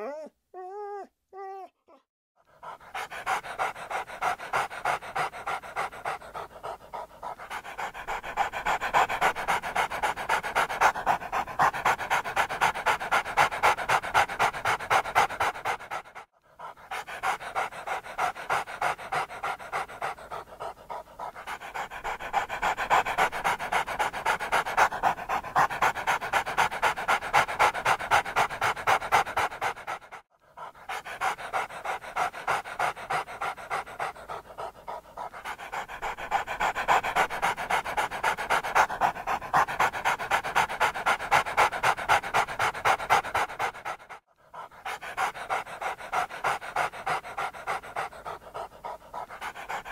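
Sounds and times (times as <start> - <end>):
dog panting: 1.9 - 49.9.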